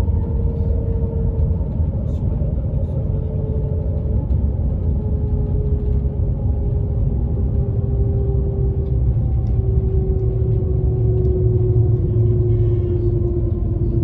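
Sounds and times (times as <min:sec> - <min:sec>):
train cabin rumble and hum: 0:00.0 - 0:14.0.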